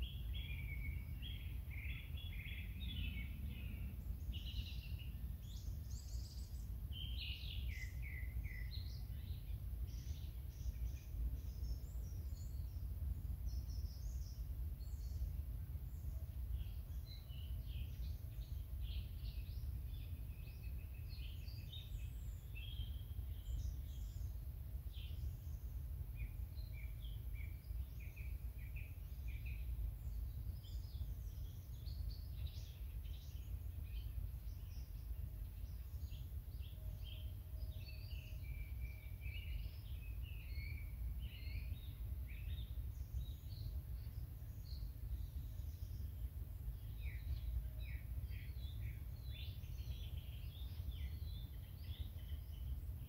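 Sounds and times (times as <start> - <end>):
small songbirds chirping: 0.0 - 53.0.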